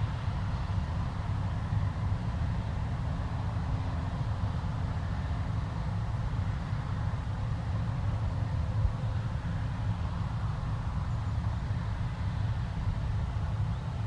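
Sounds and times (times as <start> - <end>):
combine harvester low drone: 0.0 - 14.0.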